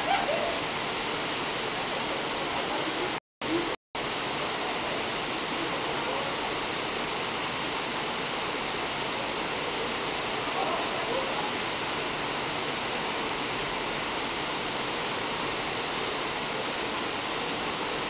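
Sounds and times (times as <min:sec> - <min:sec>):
waterfall and rapids rushing: 0:00.0 - 0:18.0.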